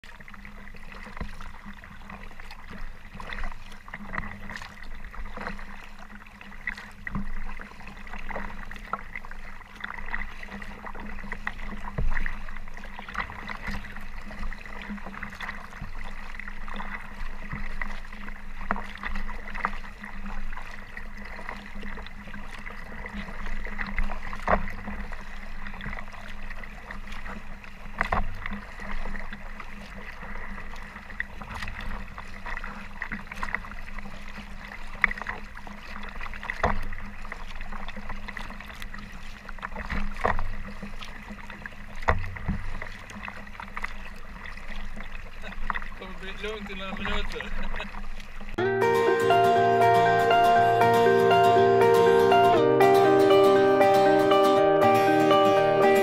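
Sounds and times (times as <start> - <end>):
water splashing against kayak: 0.0 - 56.0.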